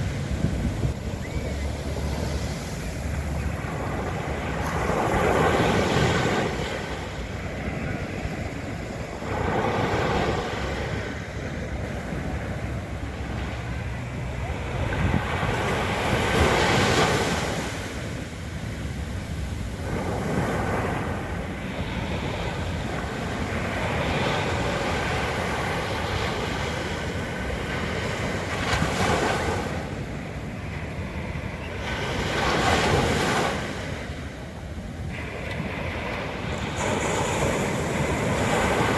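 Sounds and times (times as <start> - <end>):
waves breaking on a beach: 0.0 - 38.9
wind rumbling on microphone: 0.0 - 38.9.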